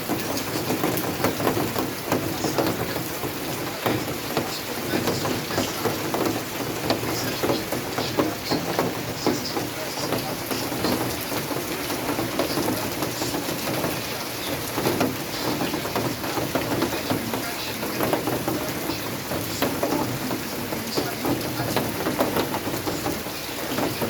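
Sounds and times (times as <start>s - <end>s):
rain falling on surfaces: 0.0s - 24.0s.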